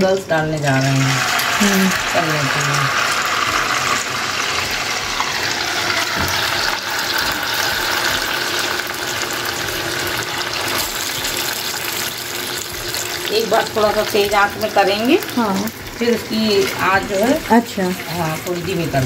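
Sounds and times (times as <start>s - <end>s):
noodles sizzling in hot oil: 0.0s - 19.0s.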